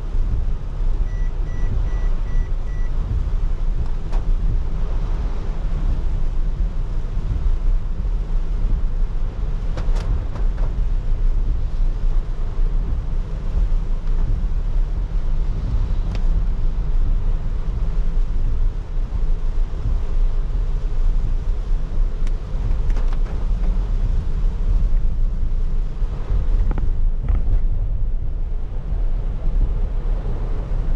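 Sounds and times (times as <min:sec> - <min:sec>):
rain hiss and wet spray: 0:00.0 - 0:30.9
road and tyre rumble: 0:00.0 - 0:30.9.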